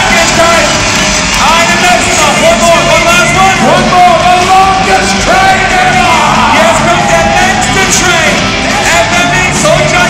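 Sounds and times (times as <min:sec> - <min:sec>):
loud rock music with singing: 0:00.0 - 0:10.0.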